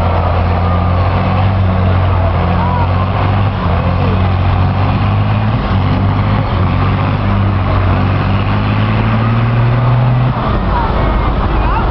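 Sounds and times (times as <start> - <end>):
tractor diesel engine at high revs: 0.0 - 11.9.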